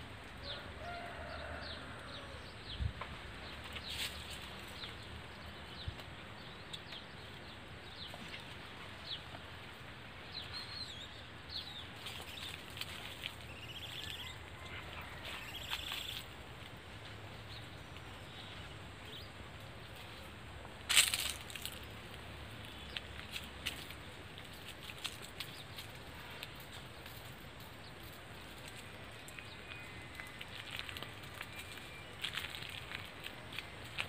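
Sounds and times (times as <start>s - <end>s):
faint outdoor background: 0.0s - 34.0s
small birds chirping: 3.4s - 16.4s, 17.0s - 34.0s.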